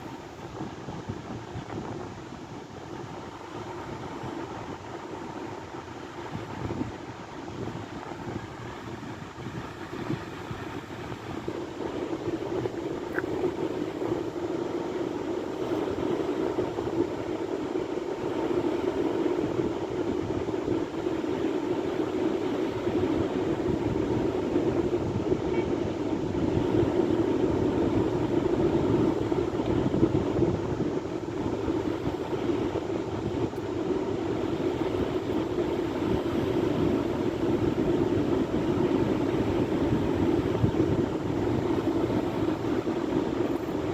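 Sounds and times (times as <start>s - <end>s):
sea waves surf rushing: 0.0s - 43.9s.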